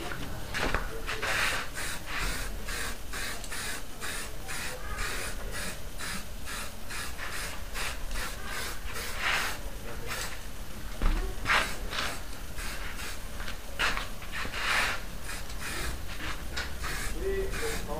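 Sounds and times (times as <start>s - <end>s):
aerosol spraying: 1.0s - 10.4s, 11.2s - 17.9s
spray paint can rattling: 1.1s - 10.4s, 11.5s - 17.9s.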